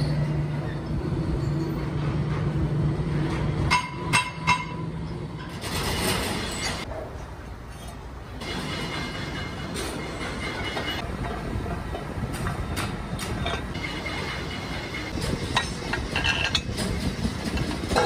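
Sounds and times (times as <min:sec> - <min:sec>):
low hum of machinery: 0:00.0 - 0:18.0.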